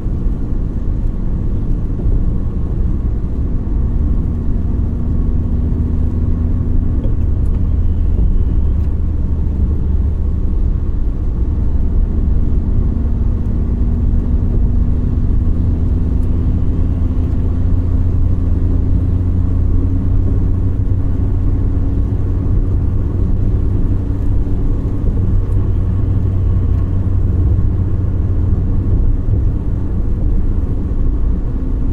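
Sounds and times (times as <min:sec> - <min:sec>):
car engine drone: 0:00.0 - 0:31.9
car road rumble: 0:00.0 - 0:31.9.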